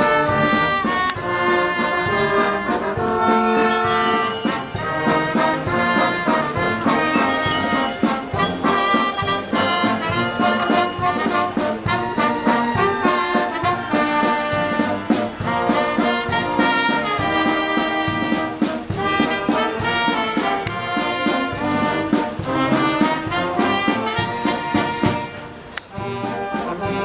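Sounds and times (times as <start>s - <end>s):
brass band playing a march: 0.0s - 27.0s
steady drumbeat: 0.0s - 27.0s.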